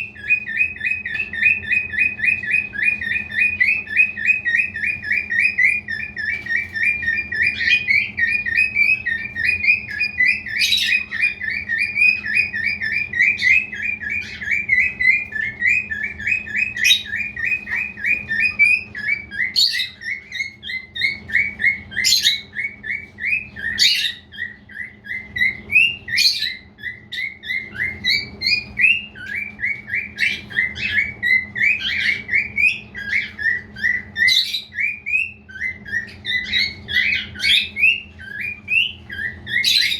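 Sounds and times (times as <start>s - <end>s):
cockatiel chirping: 0.0s - 39.9s.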